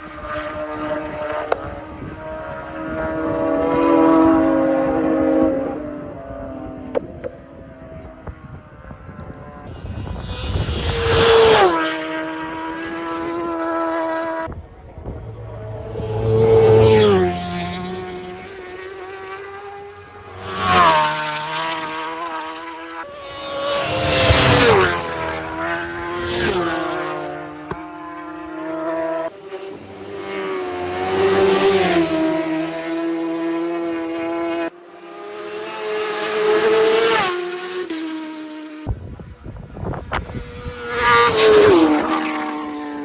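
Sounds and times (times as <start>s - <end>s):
racing motorcycles passing: 0.0s - 43.0s.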